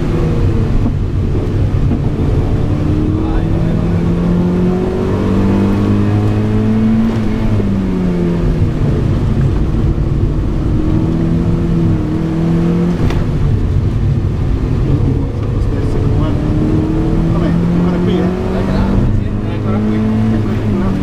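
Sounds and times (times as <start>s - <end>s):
car engine under load: 0.0s - 21.0s.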